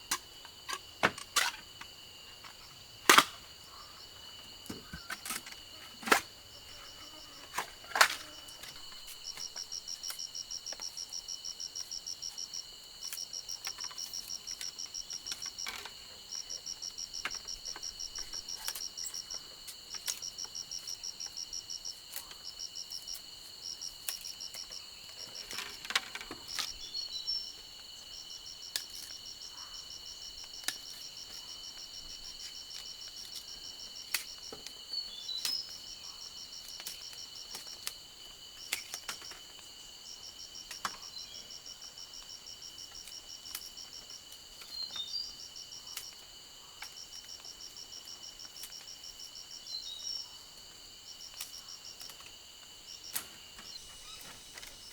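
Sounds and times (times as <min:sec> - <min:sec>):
insects high-pitched drone: 0:00.0 - 0:54.9
insects pulsed chirping: 0:00.0 - 0:54.9.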